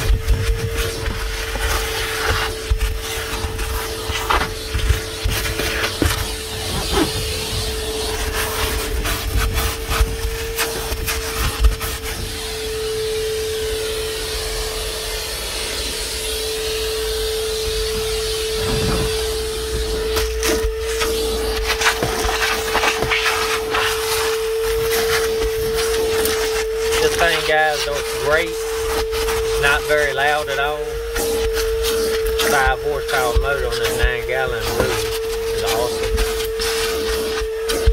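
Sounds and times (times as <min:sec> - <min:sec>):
shop vacuum whining: 0:00.0 - 0:37.9
vacuum nozzle scraping surfaces: 0:00.0 - 0:37.9.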